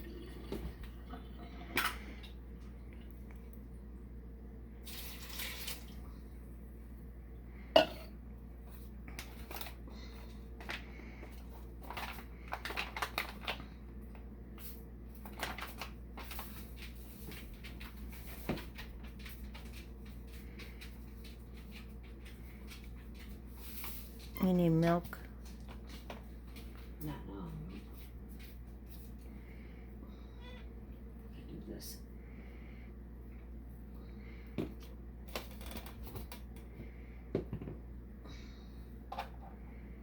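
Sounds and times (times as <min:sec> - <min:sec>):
steady low hum: 0:00.0 - 0:05.0, 0:05.8 - 0:40.0.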